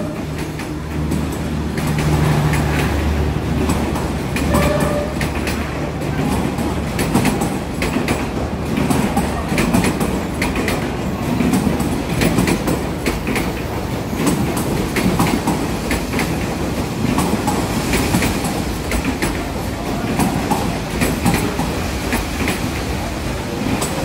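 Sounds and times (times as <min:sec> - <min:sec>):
train wheels rumbling on rail: 0:00.0 - 0:24.0
wheels clacking over rail joints: 0:00.0 - 0:24.0.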